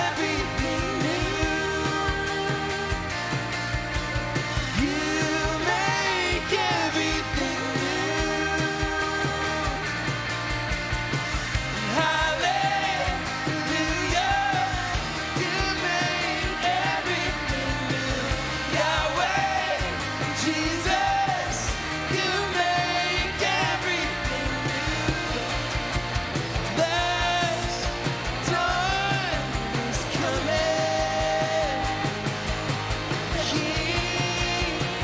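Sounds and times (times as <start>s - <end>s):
person singing lead vocal: 0.0s - 3.4s, 4.4s - 10.2s, 11.8s - 32.5s, 33.1s - 35.0s
live band music: 0.0s - 35.0s.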